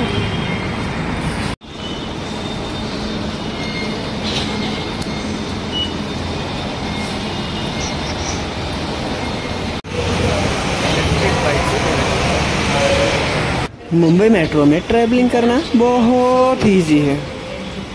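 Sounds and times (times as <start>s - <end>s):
busy station crowd din: 1.7s - 17.9s.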